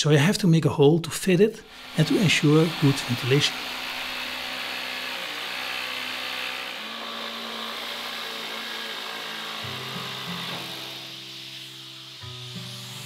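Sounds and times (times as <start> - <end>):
jigsaw sawing through wood: 1.6 - 13.0.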